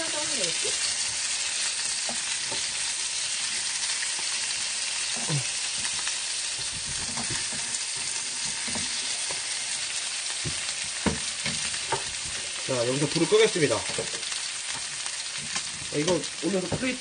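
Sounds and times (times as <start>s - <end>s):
fish sizzling in frying pan: 0.0s - 17.0s
tongs knocking and scraping pan: 0.8s - 12.6s, 13.2s - 17.0s.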